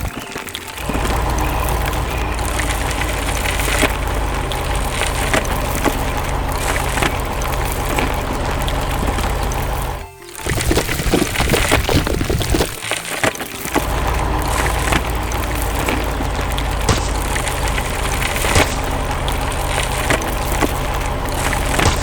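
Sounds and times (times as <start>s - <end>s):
crackling and snapping: 0.0s - 22.0s
low machine rumble: 0.7s - 10.8s, 13.7s - 22.0s.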